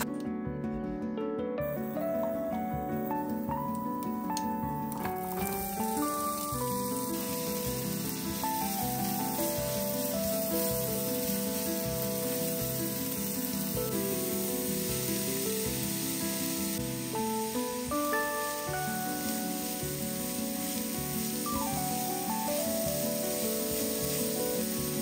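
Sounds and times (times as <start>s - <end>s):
background music with held notes: 0.0s - 25.0s
onion sizzling in frying pan: 1.6s - 25.0s.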